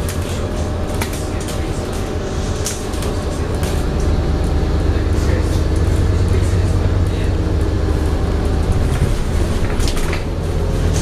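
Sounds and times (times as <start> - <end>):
bus diesel engine droning: 0.0 - 11.0
road noise: 0.0 - 11.0.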